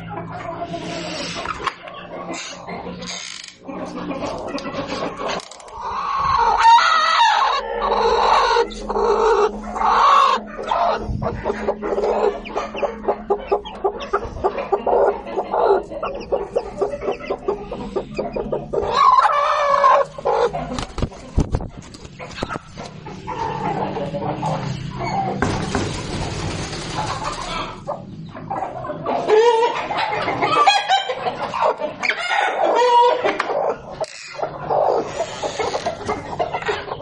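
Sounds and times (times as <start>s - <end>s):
hen clucking: 0.0s - 25.6s, 26.8s - 37.0s
chicks cheeping: 0.0s - 37.0s.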